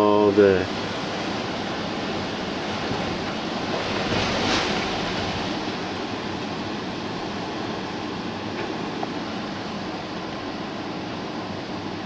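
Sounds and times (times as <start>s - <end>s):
hurricane wind rushing: 0.0s - 12.0s.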